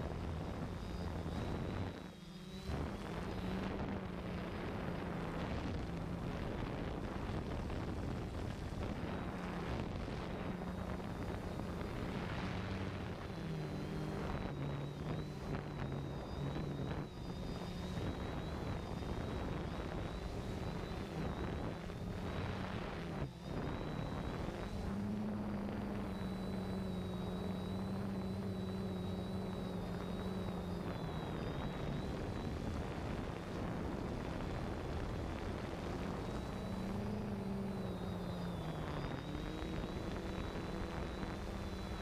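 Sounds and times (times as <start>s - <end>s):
drone motors humming: 0.0s - 42.0s
thin high whine: 0.0s - 42.0s.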